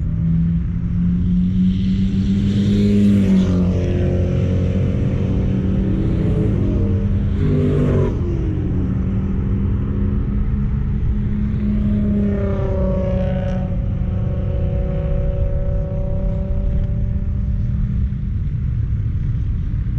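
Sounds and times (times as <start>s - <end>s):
car engine running hard: 0.0s - 19.9s.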